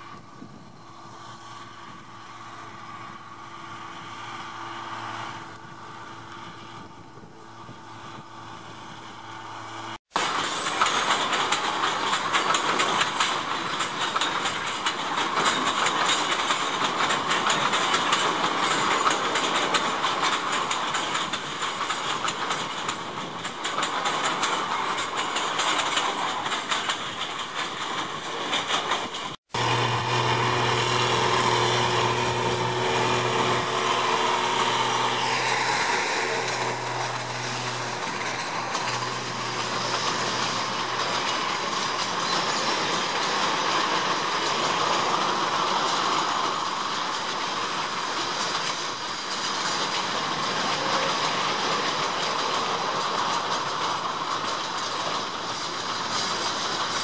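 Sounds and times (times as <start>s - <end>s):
train hum with faint whine: 0.0s - 57.0s
train wagons rattling over rail joints: 0.0s - 57.0s.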